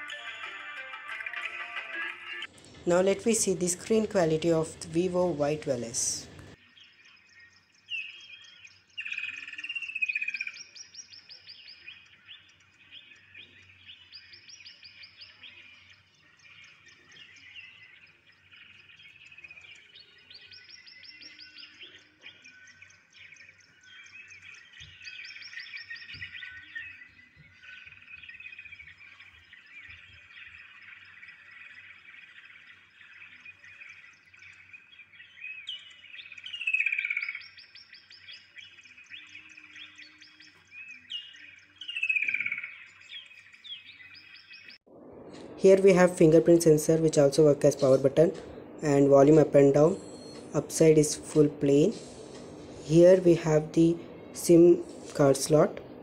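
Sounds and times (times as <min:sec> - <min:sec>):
birds chirping and trilling: 0:01.2 - 0:56.0.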